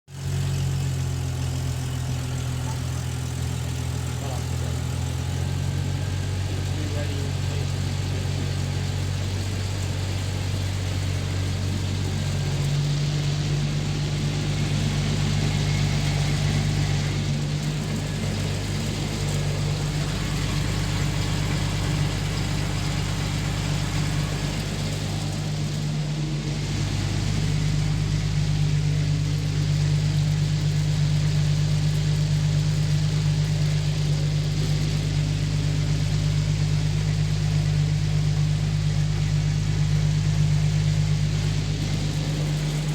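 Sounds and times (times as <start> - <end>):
car engine idling: 0.0 - 42.9
driveshaft and axle drone: 0.1 - 42.9.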